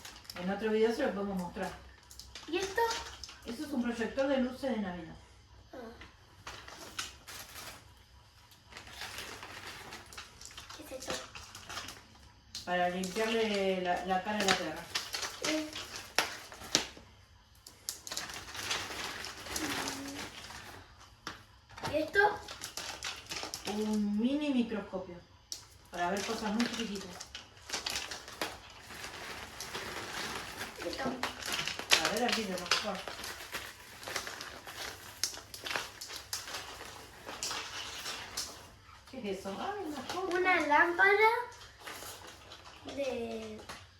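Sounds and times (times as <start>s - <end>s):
plastic packaging crinkling: 0.0s - 4.6s, 6.3s - 24.5s, 25.3s - 43.9s
plastic packaging rustling: 0.0s - 4.9s, 5.8s - 43.9s.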